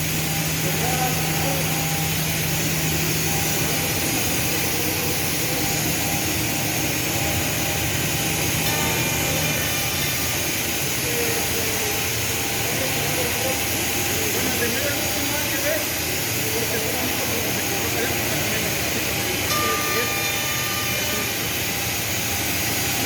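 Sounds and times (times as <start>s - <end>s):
machine hiss: 0.0s - 23.0s.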